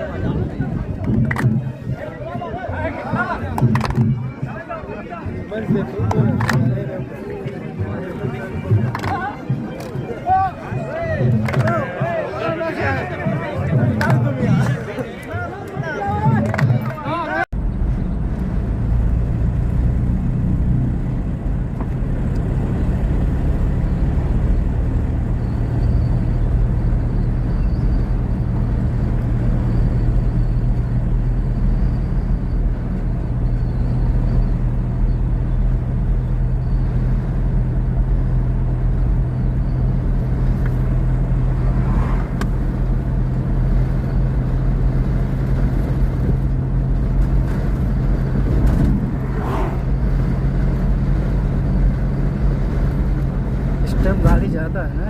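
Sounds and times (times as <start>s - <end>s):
road noise: 0.0s - 55.0s
vehicle engine drone: 0.0s - 55.0s.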